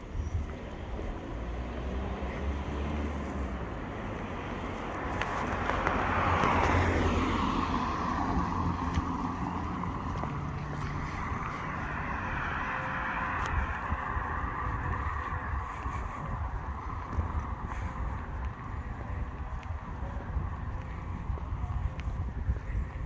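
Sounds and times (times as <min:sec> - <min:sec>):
steady hum of engines: 0:00.0 - 0:23.0
vehicle passing close: 0:00.7 - 0:22.9.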